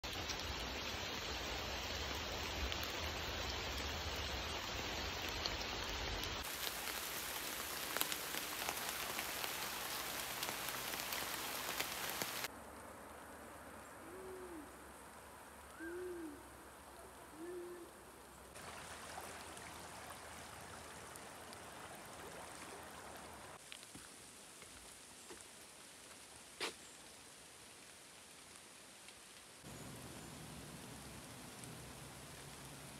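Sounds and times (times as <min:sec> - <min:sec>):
rain on leaves and water: 0:00.0 - 0:32.9.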